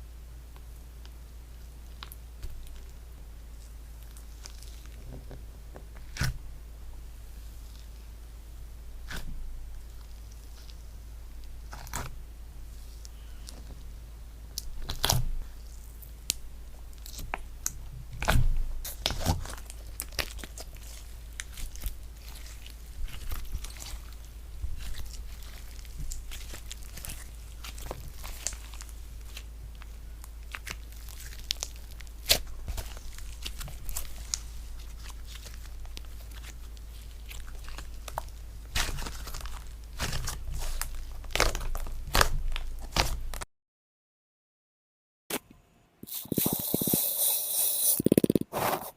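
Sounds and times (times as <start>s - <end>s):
slime squishes: 0.6s - 6.4s, 9.0s - 43.4s.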